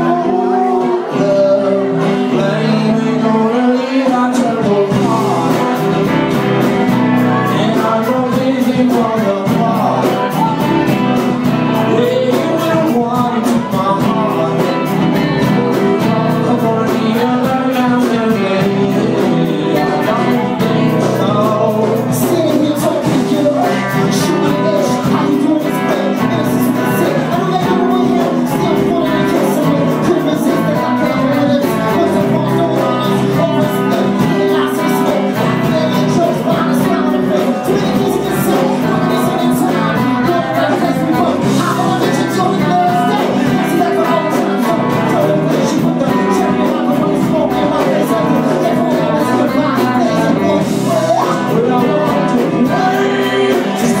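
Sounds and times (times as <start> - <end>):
live band playing: 0.0 - 54.0
man singing lead vocal: 0.0 - 54.0.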